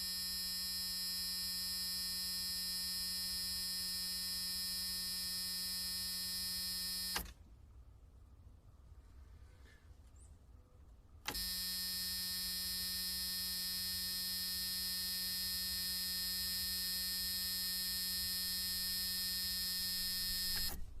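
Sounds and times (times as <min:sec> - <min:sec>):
low electric buzz: 0:00.0 - 0:07.5, 0:11.1 - 0:21.0.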